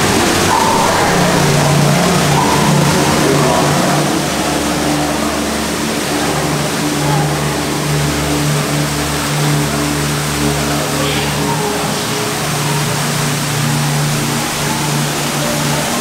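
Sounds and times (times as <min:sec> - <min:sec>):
continuous low hum: 0:00.0 - 0:16.0
water rushing along flume: 0:00.0 - 0:16.0.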